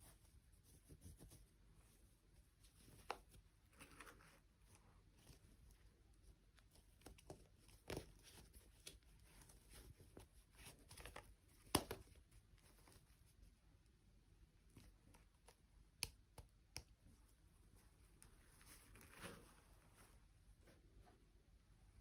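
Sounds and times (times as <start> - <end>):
soft handling taps and rustles: 0.0 - 13.6, 14.6 - 21.2.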